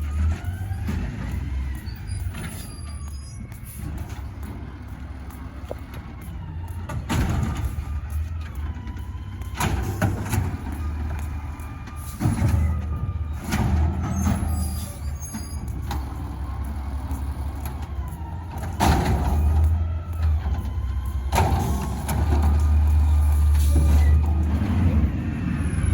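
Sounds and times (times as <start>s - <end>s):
garbage truck engine hum: 0.0s - 25.9s.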